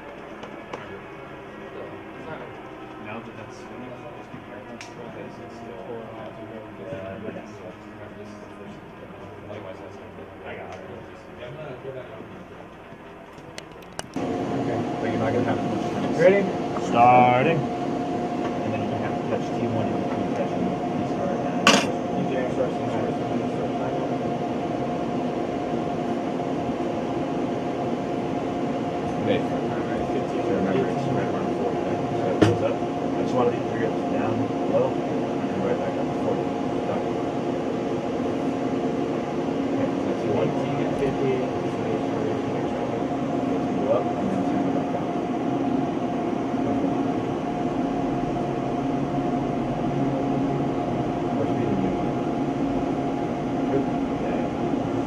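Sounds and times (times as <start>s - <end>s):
jet engine droning with whine: 0.0s - 55.0s.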